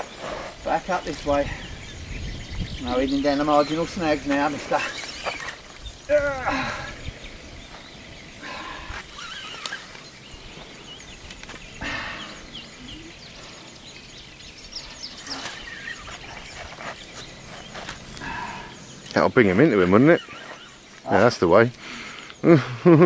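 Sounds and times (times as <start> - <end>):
faint bird calls: 0.0 - 23.0
small birds chirping: 0.0 - 23.0.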